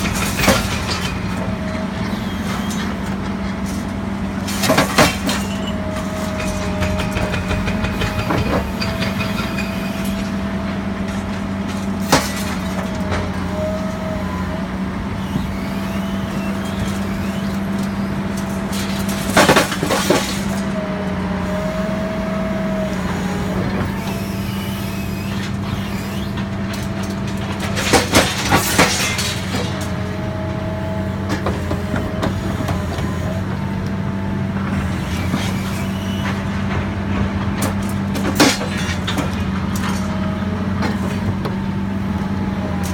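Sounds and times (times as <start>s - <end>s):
excavator engine hum: 0.0s - 42.9s
hydraulic whine: 0.0s - 42.9s.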